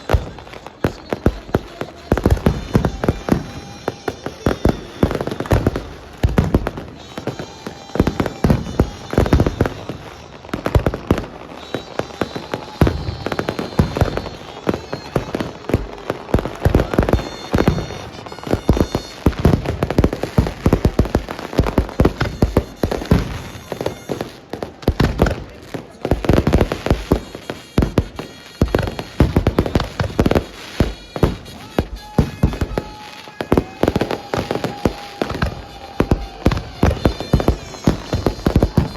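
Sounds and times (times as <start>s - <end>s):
fireworks banging: 0.0s - 38.9s.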